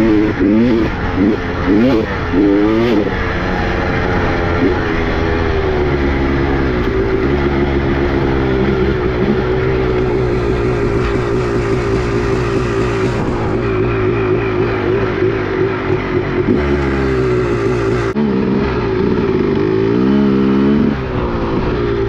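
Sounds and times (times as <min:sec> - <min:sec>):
two-stroke motorcycle engine: 0:00.0 - 0:22.0.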